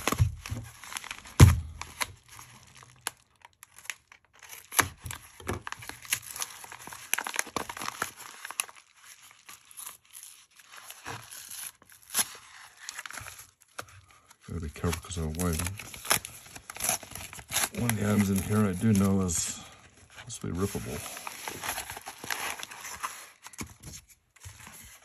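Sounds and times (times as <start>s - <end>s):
paper mailer rustling and tearing: 0.0s - 25.0s.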